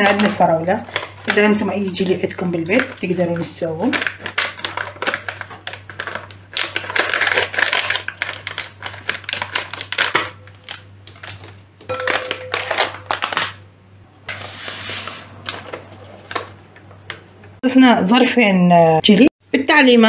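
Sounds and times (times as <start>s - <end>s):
packets crinkling: 0.0s - 13.6s, 14.3s - 16.9s.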